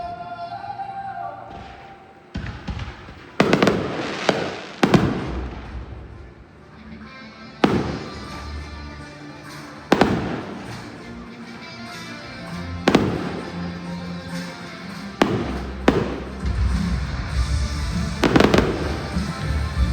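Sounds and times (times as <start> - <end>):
music playing: 0.0 - 19.9
fireworks bangs: 1.5 - 6.6, 7.6 - 19.9.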